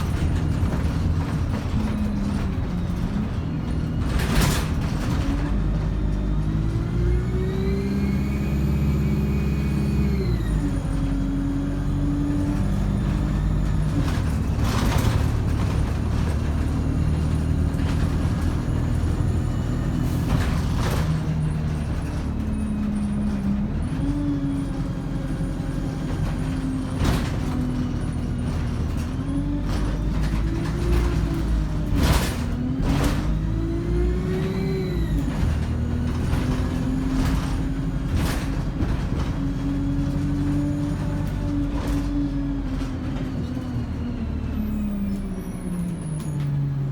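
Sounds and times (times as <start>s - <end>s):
bus engine running: 0.0s - 46.9s.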